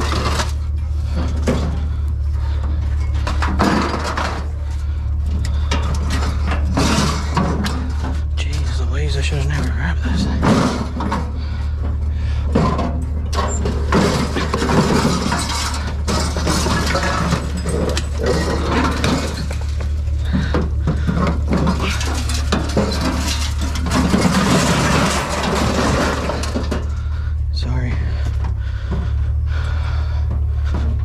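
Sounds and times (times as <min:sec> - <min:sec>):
sheet metal clanking and scraping: 0:00.0 - 0:27.3
low hum: 0:00.0 - 0:31.0.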